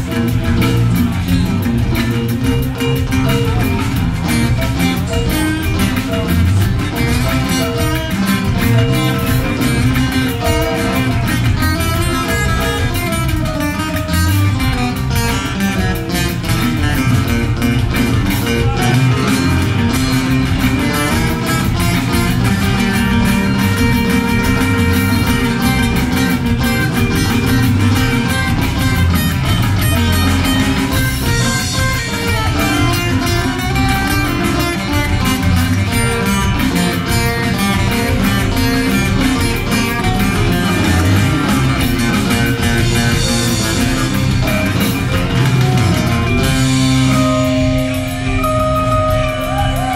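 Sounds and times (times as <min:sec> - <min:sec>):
acoustic guitars strumming: 0:00.0 - 0:49.9
live band music: 0:00.0 - 0:49.9.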